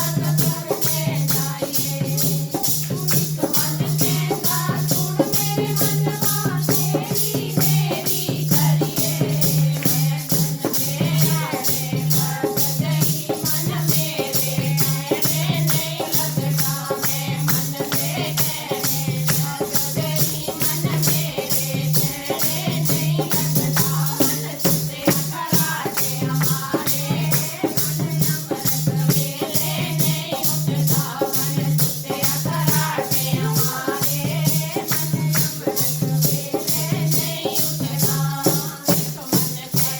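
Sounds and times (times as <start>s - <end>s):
rattling percussion beat: 0.0s - 39.9s.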